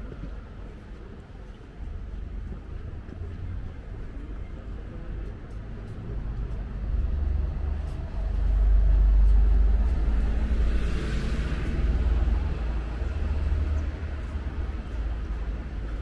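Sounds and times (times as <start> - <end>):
city street ambience: 0.0 - 16.0.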